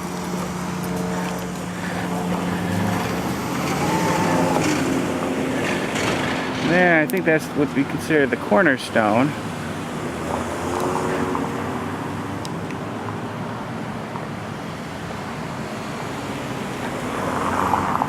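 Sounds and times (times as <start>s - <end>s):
vehicle passing: 0.0s - 13.4s, 14.8s - 18.0s
car engine hum: 0.0s - 18.0s
traffic tyre and engine noise: 0.0s - 18.0s.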